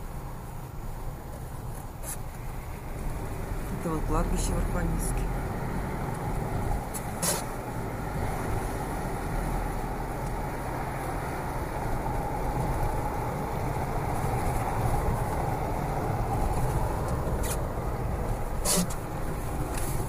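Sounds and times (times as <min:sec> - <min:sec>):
car driving noise from inside: 0:00.0 - 0:20.0.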